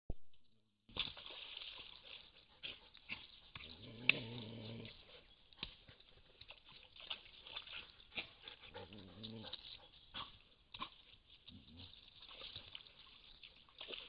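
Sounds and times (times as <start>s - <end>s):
animals moving through mud: 0.9s - 14.0s.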